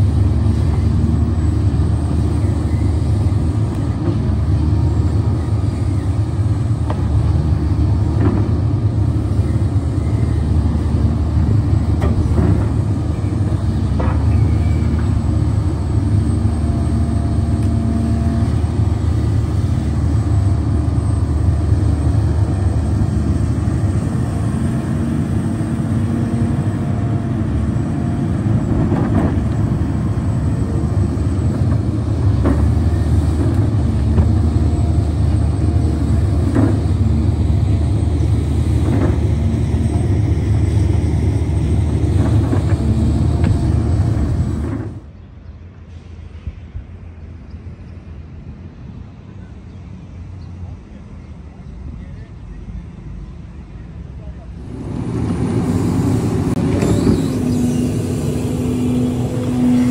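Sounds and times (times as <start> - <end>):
excavator diesel engine running: 0.0 - 45.2, 51.6 - 59.9.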